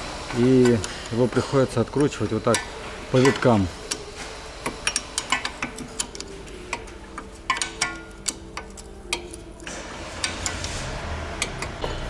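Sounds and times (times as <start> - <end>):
wrench clicking on bolt: 0.6 - 10.8.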